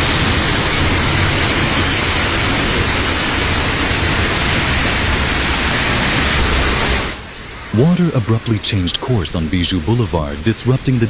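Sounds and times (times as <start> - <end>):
storm floodwater rushing: 0.0 - 11.0.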